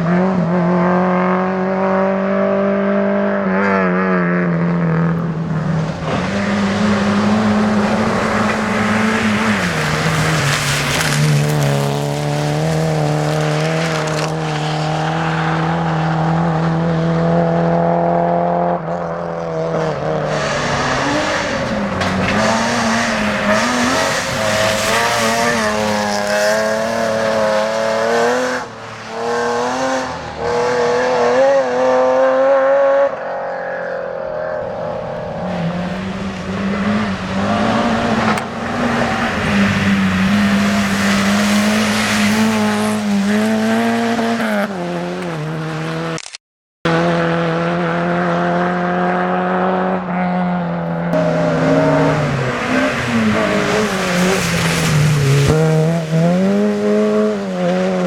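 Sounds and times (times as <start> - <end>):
rally car engines revving: 0.0 - 46.2, 46.9 - 58.0.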